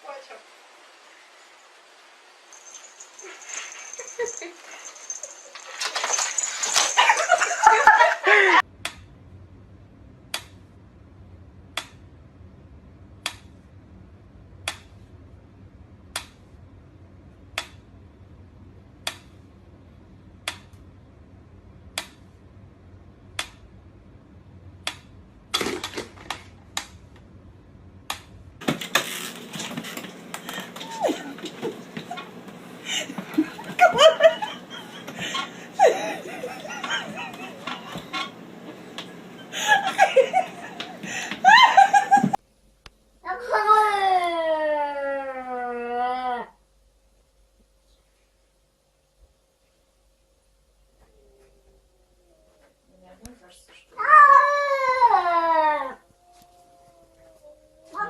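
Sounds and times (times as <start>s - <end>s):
faint low hum: 2.5s - 58.0s.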